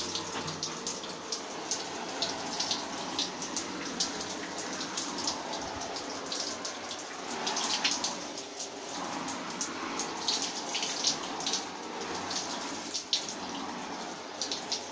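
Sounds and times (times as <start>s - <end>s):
water splashing on jacket: 0.0s - 14.9s.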